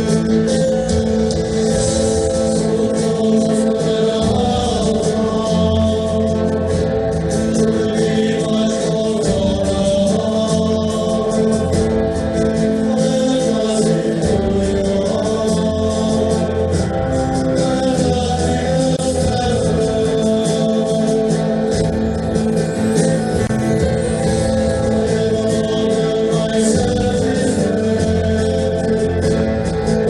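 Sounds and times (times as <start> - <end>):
band music with lead vocal: 0.0 - 30.0.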